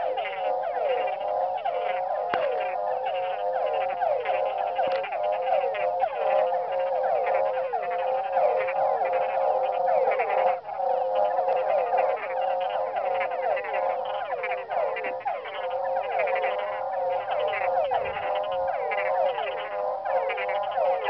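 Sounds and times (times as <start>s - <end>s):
frogs and toads croaking: 0.0s - 21.0s.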